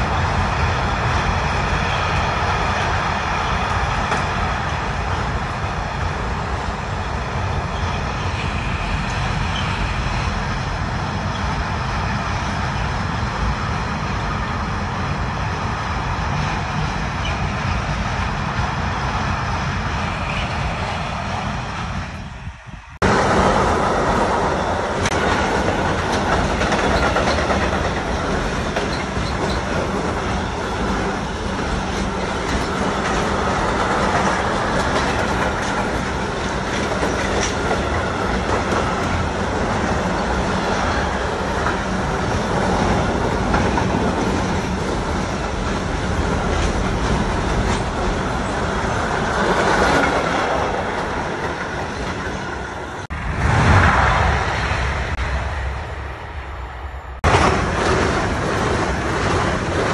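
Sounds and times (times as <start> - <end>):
train wheels rolling on track: 0.0 - 59.9.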